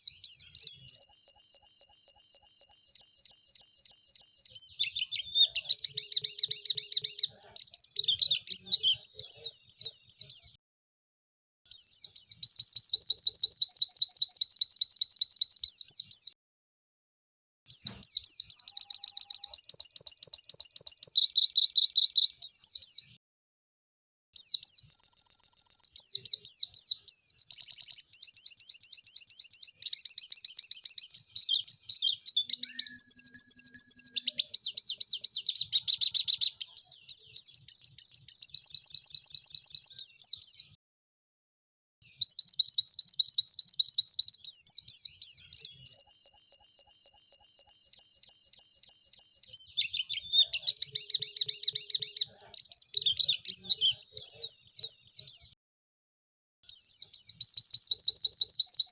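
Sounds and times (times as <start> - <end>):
bird twittering song: 0.0 - 10.6, 11.7 - 16.4, 17.7 - 23.2, 24.4 - 40.8, 42.0 - 55.6, 56.6 - 58.9.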